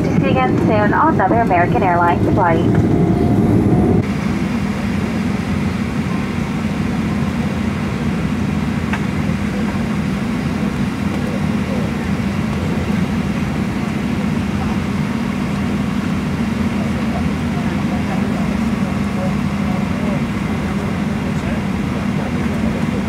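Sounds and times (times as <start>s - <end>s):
airplane cabin hum: 0.0s - 23.0s.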